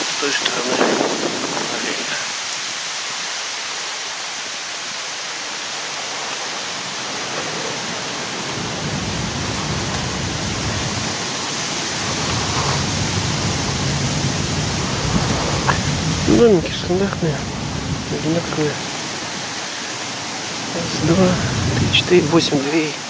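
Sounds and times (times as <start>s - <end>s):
wind rumbling on microphone: 0.0s - 2.8s, 5.9s - 23.0s
steady outdoor hiss: 0.0s - 23.0s.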